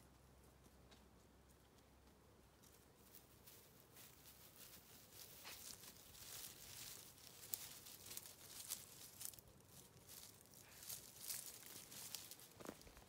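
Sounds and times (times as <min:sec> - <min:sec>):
rustling of dry leaves: 0:02.4 - 0:13.0.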